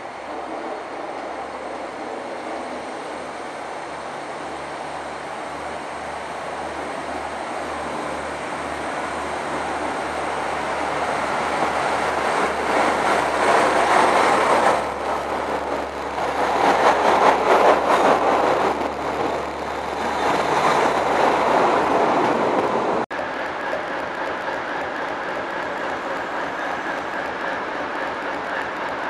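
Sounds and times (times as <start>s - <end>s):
train engine hum: 0.0s - 29.0s
train wheels rumbling and hissing: 0.0s - 29.0s.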